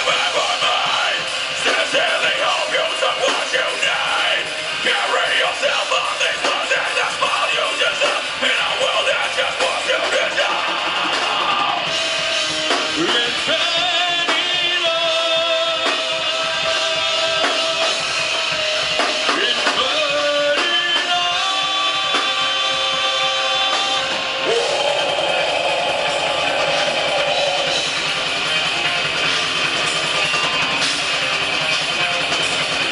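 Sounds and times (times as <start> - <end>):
rock band playing live: 0.0 - 32.9.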